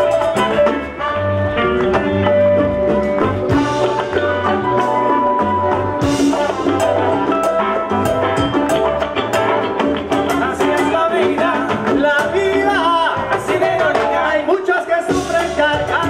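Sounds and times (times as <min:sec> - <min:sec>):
congas: 0:00.0 - 0:16.0
salsa band playing: 0:00.0 - 0:16.0.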